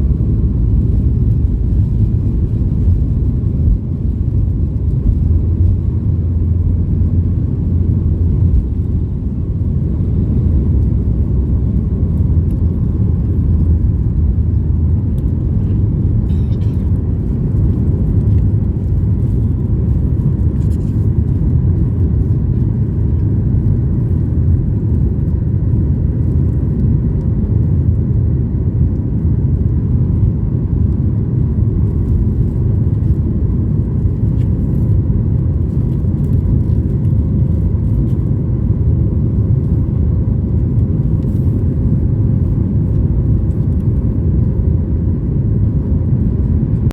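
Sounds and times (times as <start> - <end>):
airliner cabin rumble: 0.0 - 46.9
faint steady hum: 0.0 - 46.9.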